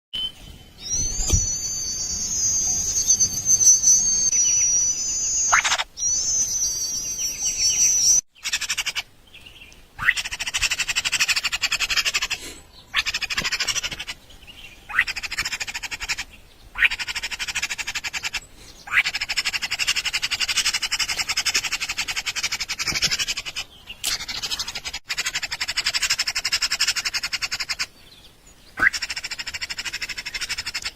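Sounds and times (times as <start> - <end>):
nestling birds begging calls: 0.7 - 30.9.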